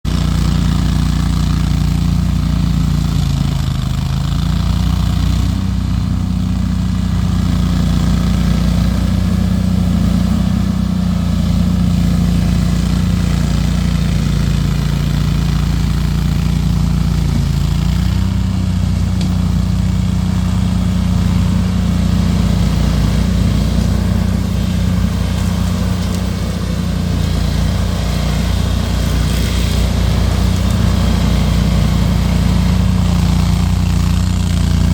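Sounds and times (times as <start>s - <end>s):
mower engine running: 0.0s - 34.9s.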